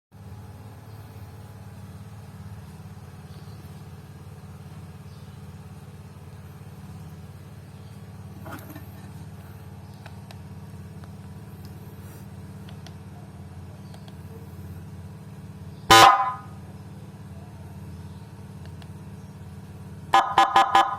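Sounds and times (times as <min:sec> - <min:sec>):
vehicle engine idling: 0:00.1 - 0:20.9.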